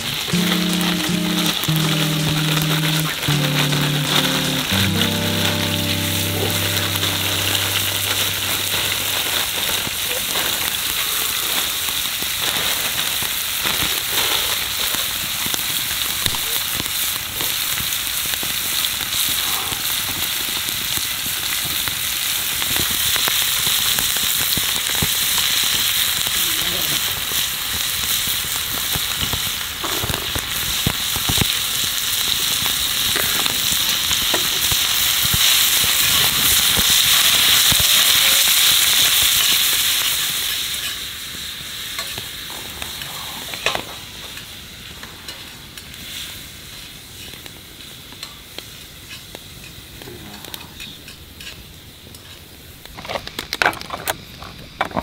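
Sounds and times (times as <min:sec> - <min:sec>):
vegetables sizzling in a frying pan: 0:00.0 - 0:55.0.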